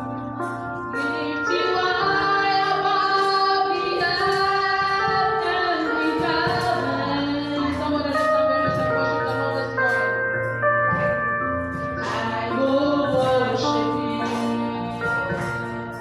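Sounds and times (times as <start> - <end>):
sustained musical accompaniment: 0.0 - 16.0.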